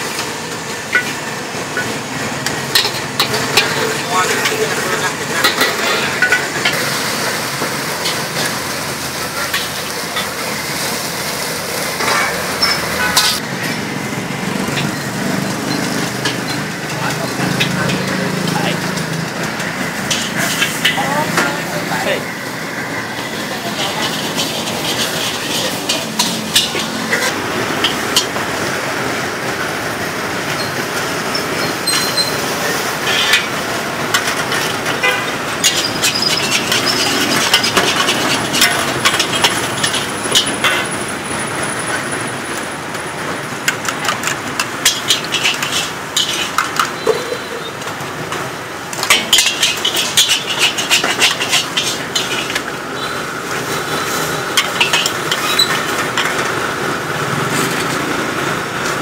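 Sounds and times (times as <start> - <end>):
metal ladle scraping a wok: 0.0 - 13.9, 14.6 - 28.4, 30.5 - 41.0, 43.6 - 56.6
street traffic hum: 0.0 - 59.0.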